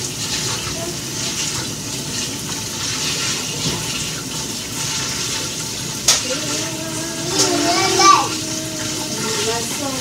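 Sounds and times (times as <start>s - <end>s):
water running from tap: 0.0s - 10.0s.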